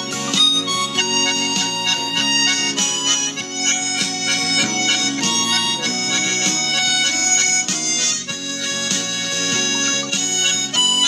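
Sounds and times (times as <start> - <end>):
harmonica playing chords: 0.0 - 11.0.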